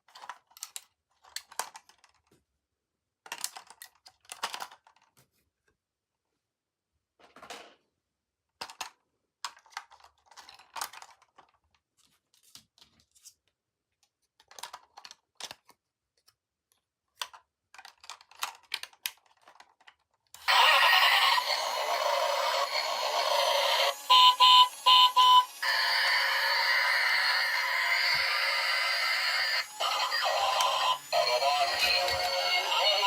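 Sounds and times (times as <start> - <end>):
plastic toys and packaging handled: 0.0 - 33.0.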